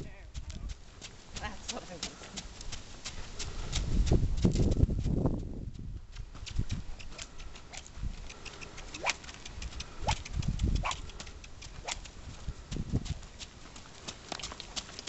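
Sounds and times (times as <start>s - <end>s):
horse hoofbeats: 0.0s - 15.0s.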